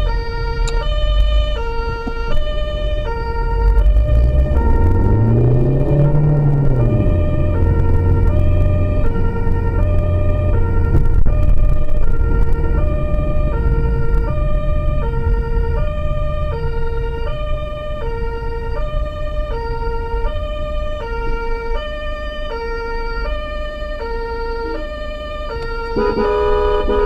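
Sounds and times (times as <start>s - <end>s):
engine and road rumble: 0.0s - 27.0s
two-tone emergency siren: 0.0s - 27.0s.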